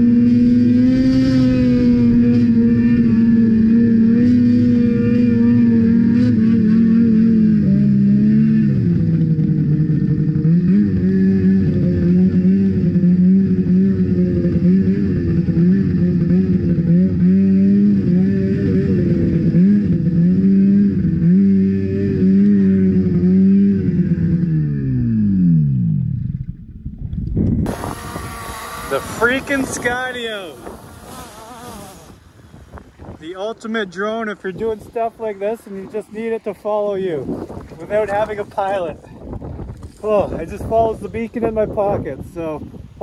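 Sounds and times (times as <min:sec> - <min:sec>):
snowmobile engine revving: 0:00.0 - 0:26.2, 0:27.6 - 0:39.2.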